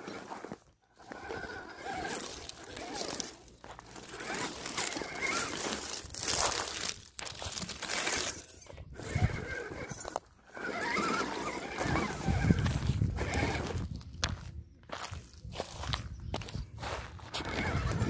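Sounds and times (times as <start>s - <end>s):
electric motor and gears whining: 0.0s - 18.0s
tyres scraping and crunching on rock: 0.0s - 18.0s.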